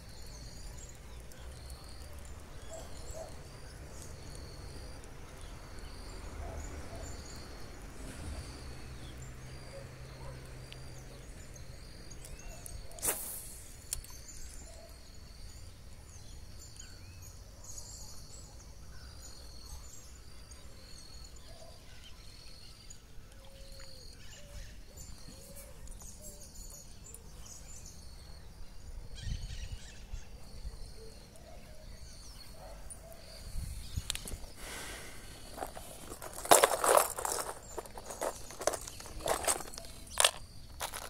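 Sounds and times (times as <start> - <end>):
birds chirping faintly: 0.0 - 41.0.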